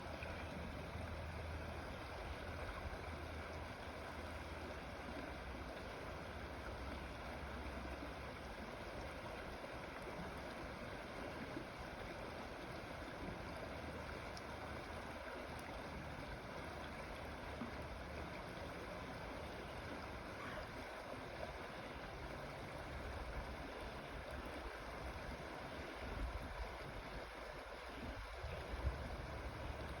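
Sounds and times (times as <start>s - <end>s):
creek water flowing: 0.0s - 30.0s.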